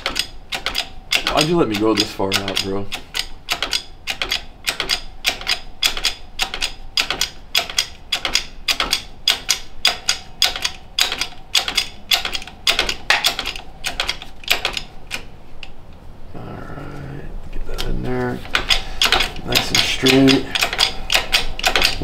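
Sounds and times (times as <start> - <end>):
hydraulic jack clicking: 0.0 - 15.3, 17.8 - 22.0.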